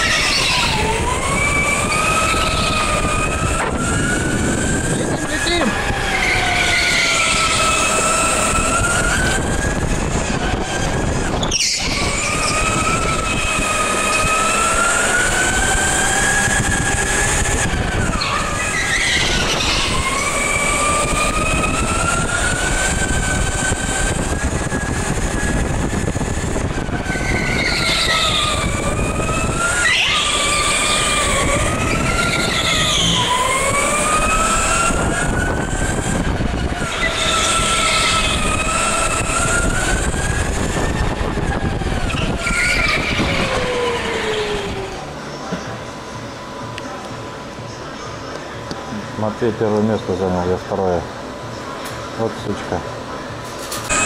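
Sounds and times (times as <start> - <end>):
electric motor whining: 0.0 - 50.8, 51.4 - 54.0.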